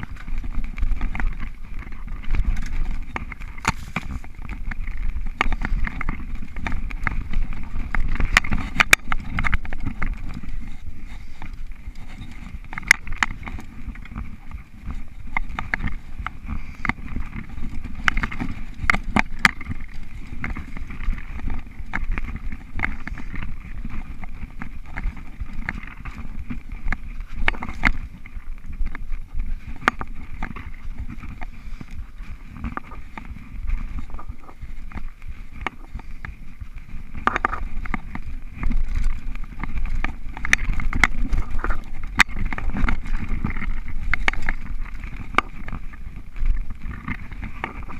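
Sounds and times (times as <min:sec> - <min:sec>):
bike rattling over bumps: 0:00.0 - 0:47.9
bike tyres rumbling on dirt: 0:00.0 - 0:47.9.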